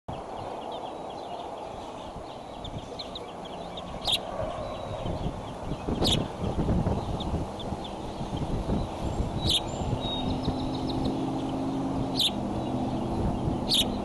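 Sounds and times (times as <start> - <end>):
low wind rumble: 0.1 - 14.0
thin bird chirps: 0.2 - 6.3, 6.9 - 14.0.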